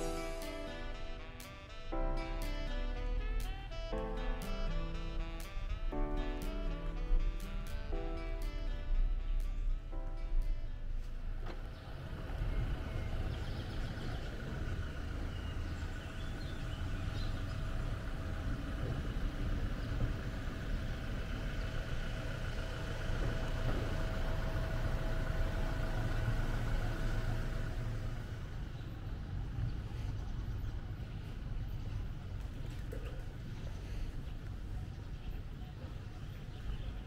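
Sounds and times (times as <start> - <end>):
low rumble of road vehicles: 0.0 - 37.0.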